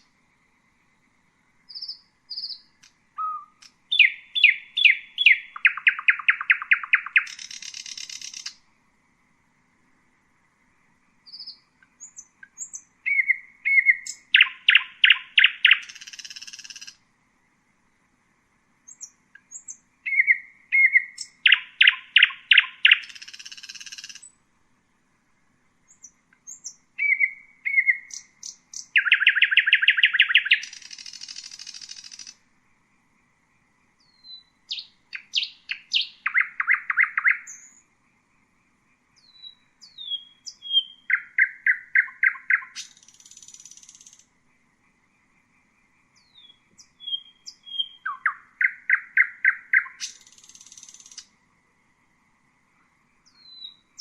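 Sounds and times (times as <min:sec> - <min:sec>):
nightingale singing: 0:00.0 - 0:00.2, 0:00.8 - 0:08.8, 0:11.1 - 0:17.1, 0:18.8 - 0:24.5, 0:25.8 - 0:51.4, 0:52.7 - 0:54.0.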